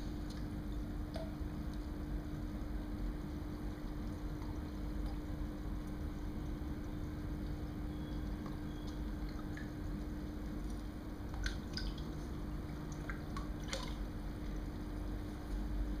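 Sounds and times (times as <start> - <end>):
steady low hum: 0.0 - 16.0
water dripping: 0.2 - 15.2.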